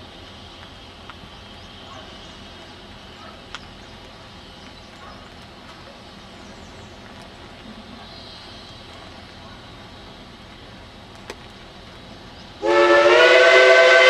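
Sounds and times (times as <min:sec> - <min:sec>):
distant steam locomotive rumble: 0:00.0 - 0:14.0.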